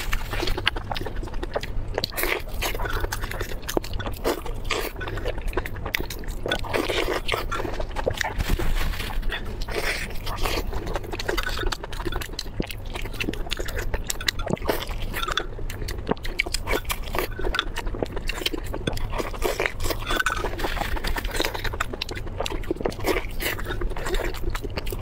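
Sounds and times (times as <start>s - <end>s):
chewing meat with wet smacks: 0.0s - 25.0s.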